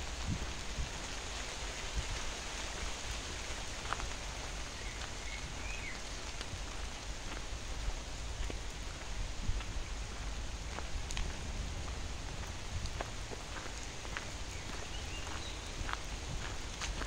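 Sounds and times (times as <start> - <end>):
steady rain falling on water: 0.0 - 17.0.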